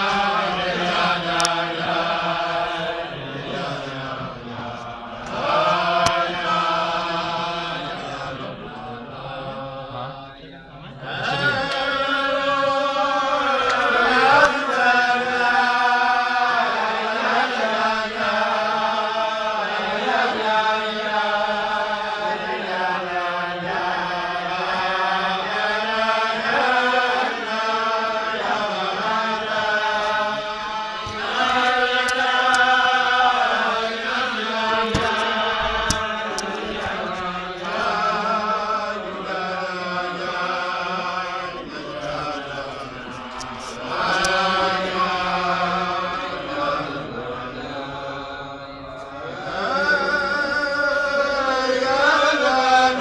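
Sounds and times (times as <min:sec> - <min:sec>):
group of men singing: 0:00.0 - 0:53.0.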